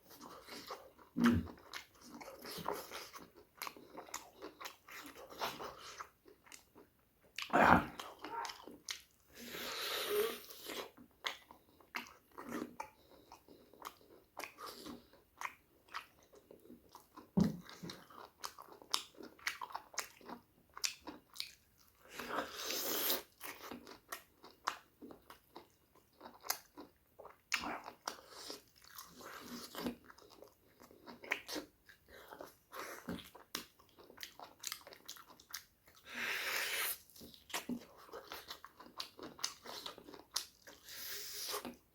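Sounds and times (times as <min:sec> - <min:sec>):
chewing and biting food: 0:00.1 - 0:09.2, 0:10.5 - 0:41.9.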